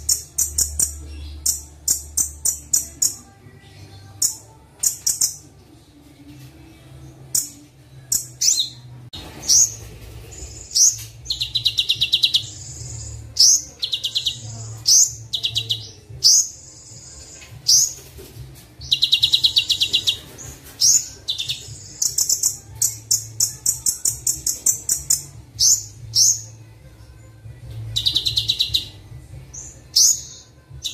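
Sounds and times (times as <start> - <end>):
bird chirps and trills: 0.0 - 5.4, 7.2 - 18.1, 18.8 - 26.7, 27.8 - 30.9.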